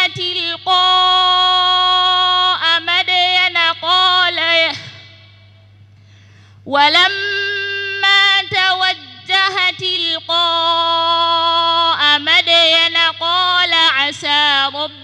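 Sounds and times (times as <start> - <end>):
woman reciting melodically: 0.0 - 5.4, 6.6 - 15.0
low electrical hum: 0.0 - 15.0.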